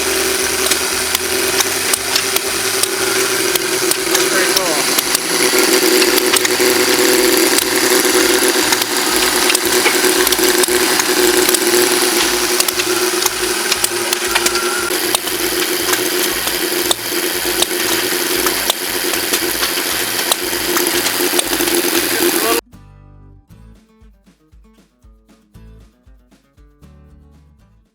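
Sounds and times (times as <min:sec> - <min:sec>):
mechanical clicking and clatter: 0:00.0 - 0:22.6
stationary gas engines running: 0:00.0 - 0:22.6.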